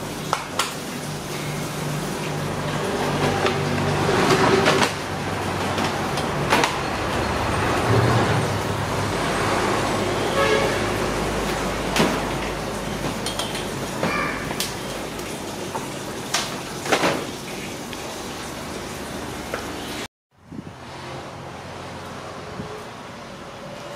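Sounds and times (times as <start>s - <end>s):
road traffic engine hum: 0.0s - 23.9s.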